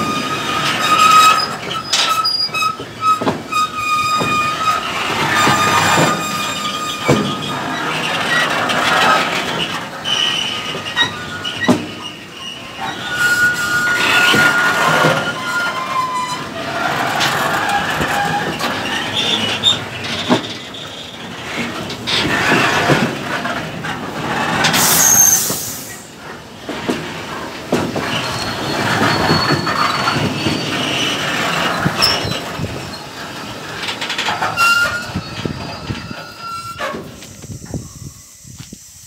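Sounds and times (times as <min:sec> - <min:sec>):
wheels clicking and knocking: 0:00.0 - 0:24.9, 0:26.2 - 0:37.8
train wheels squealing on rails: 0:00.0 - 0:39.0.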